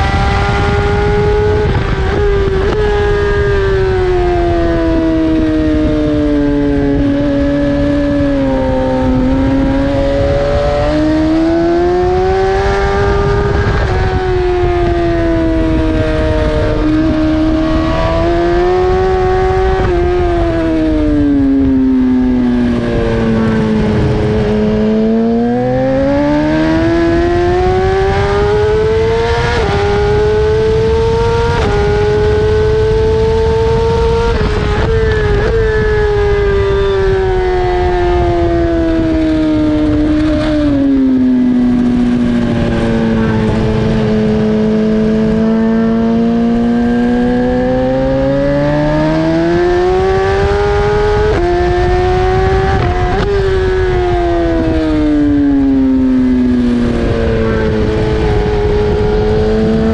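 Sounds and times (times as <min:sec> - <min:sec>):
low rushing noise: 0:00.0 - 0:27.5, 0:31.4 - 0:47.6, 0:50.9 - 0:59.9
motorcycle engine revving: 0:00.0 - 0:59.9.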